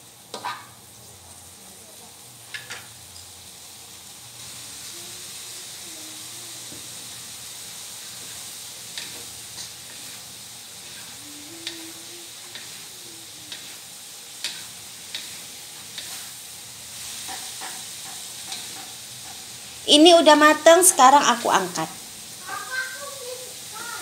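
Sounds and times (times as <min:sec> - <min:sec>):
beans sizzling in a wok: 0:00.0 - 0:24.0.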